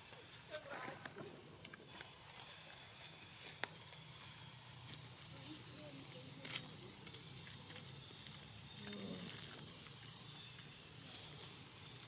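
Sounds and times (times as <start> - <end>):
monkeys rustling through grass: 0.0 - 12.0.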